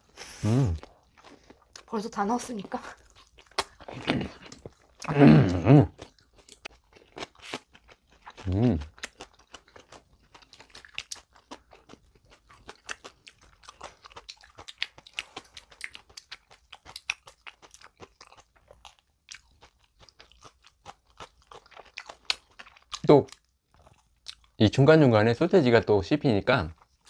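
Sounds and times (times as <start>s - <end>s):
chewing with crunches: 0.6s - 24.6s, 26.6s - 27.0s.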